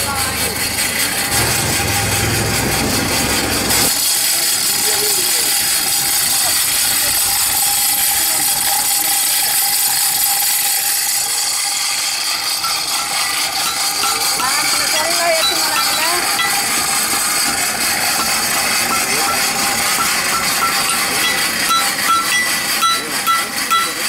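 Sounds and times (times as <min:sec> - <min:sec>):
forge blower gears whirring: 0:00.0 - 0:24.0.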